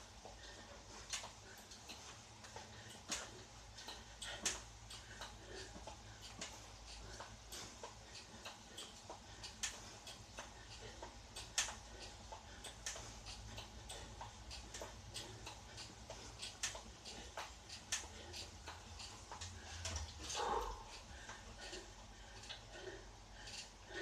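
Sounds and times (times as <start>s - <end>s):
low steady hum: 0.0s - 24.0s
spin bike pedal clicking: 0.0s - 24.0s.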